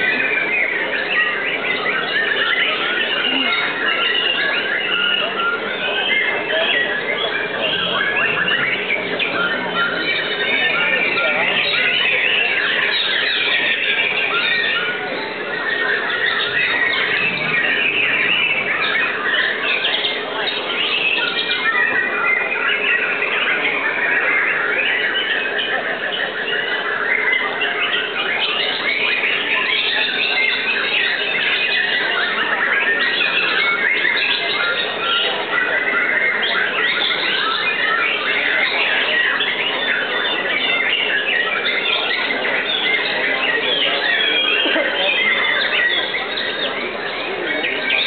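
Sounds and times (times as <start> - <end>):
birds singing quick whistles and trills: 0.0 - 48.0.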